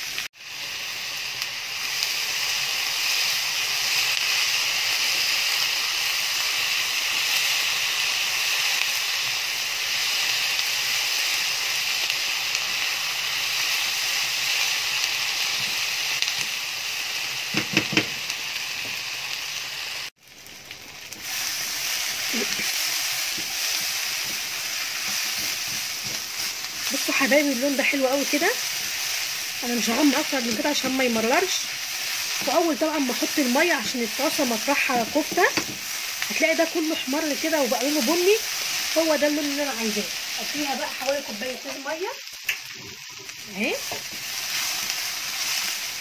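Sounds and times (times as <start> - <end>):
onions sizzling in oil: 0.0 - 46.0.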